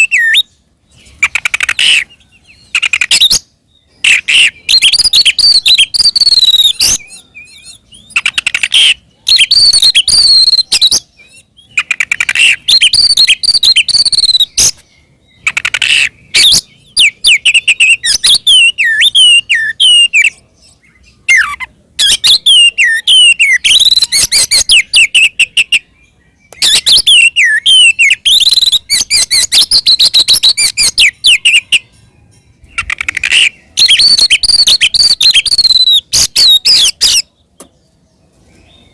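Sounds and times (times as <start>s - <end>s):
bird singing whistled phrases: 0.0s - 0.6s, 1.2s - 14.8s, 15.4s - 20.4s, 21.3s - 31.9s, 32.8s - 37.3s.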